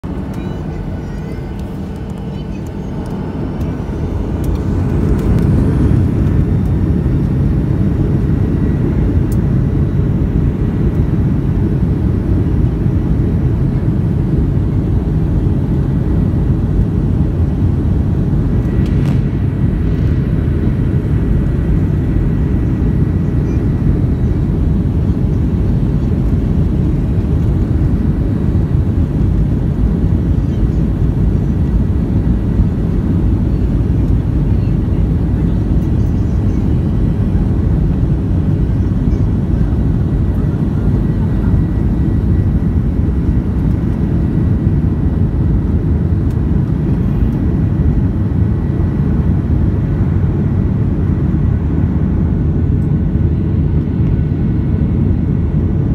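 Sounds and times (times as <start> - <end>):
jet engines rumbling in cabin: 0.0 - 55.9.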